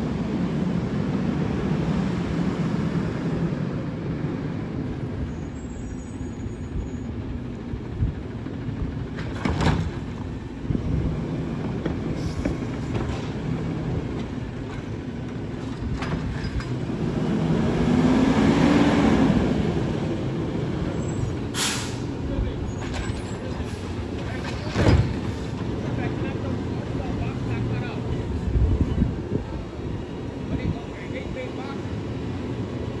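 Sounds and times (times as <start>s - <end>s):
garbage truck engine running: 3.9s - 30.5s.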